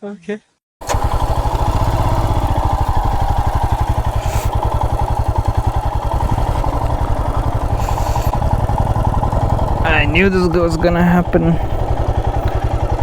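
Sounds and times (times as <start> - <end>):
motorcycle engine running: 0.8 - 13.0.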